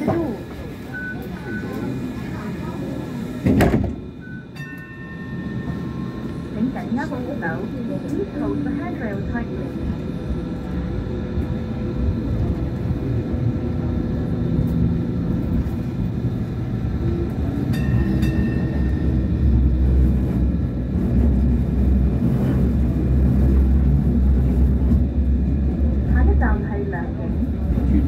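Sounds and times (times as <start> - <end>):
rail car wheels and motors rumbling: 0.0 - 28.0.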